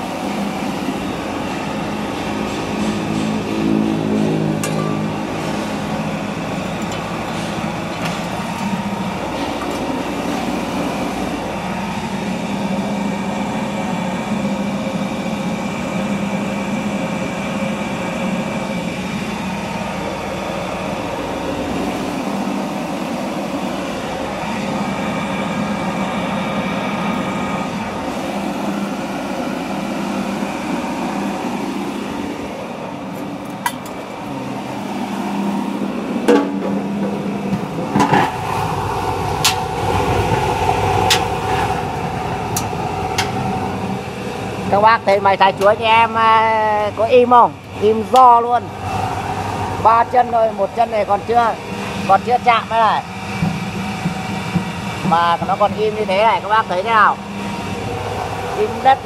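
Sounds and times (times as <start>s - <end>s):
chopper motor humming: 0.0s - 59.0s.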